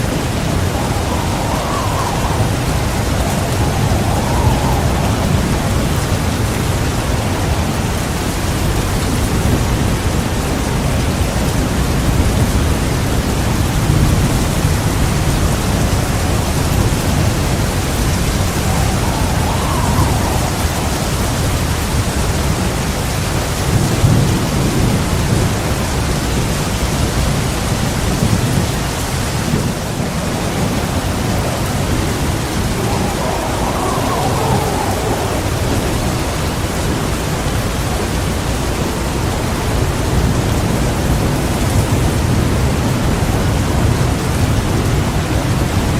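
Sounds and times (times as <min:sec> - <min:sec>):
heavy rain falling: 0:00.0 - 0:45.9
thunder rumbling: 0:00.0 - 0:45.9.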